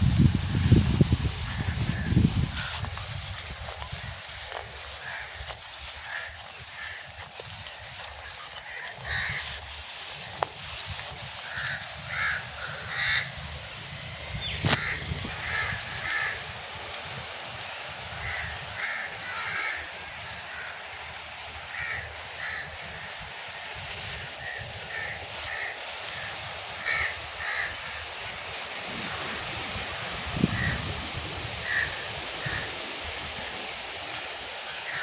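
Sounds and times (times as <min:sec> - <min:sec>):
low rumble of breeze: 0:00.0 - 0:35.0
steady background hiss: 0:00.0 - 0:35.0
birds calling: 0:00.1 - 0:20.8, 0:21.6 - 0:35.0.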